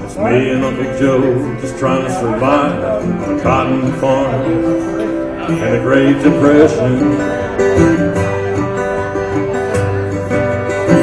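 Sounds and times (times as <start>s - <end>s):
guitar picking country song: 0.0s - 11.0s.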